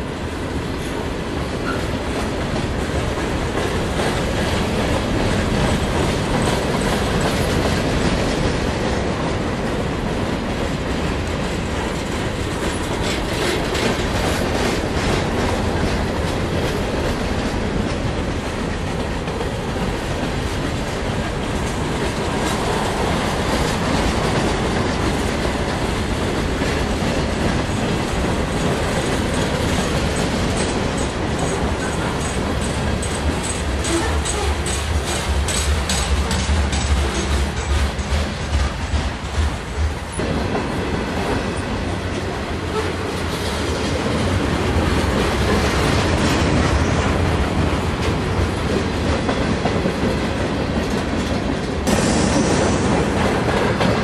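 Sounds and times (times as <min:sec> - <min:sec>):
train wheels rumbling on rail: 0:00.0 - 0:54.0
wheels clicking over rail joints: 0:00.6 - 0:40.6, 0:41.2 - 0:54.0.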